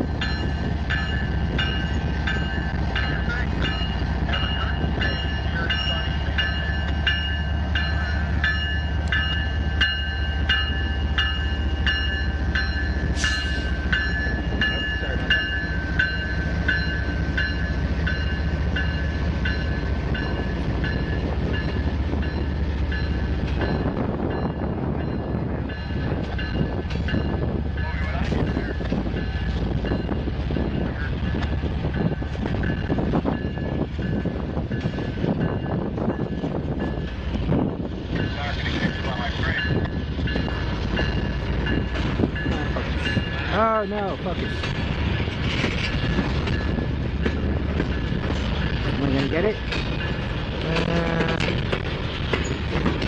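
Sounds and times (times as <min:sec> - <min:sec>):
diesel locomotive engine rumbling: 0:00.0 - 0:53.0.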